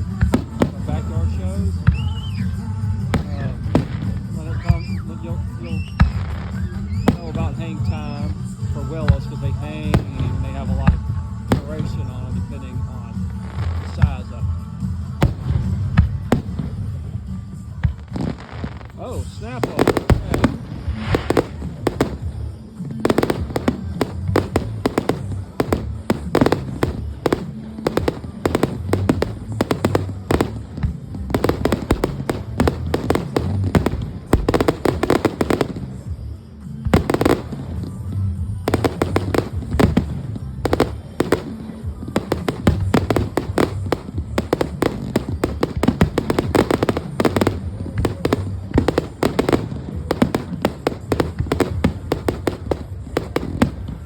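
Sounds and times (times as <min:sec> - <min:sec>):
fireworks bursting and crackling: 0:00.0 - 0:54.0
music playing: 0:00.0 - 0:54.0.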